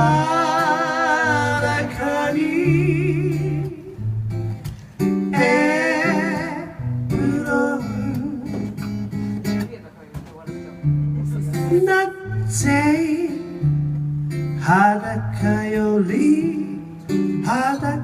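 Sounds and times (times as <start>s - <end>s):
guitar accompaniment: 0.0s - 18.0s.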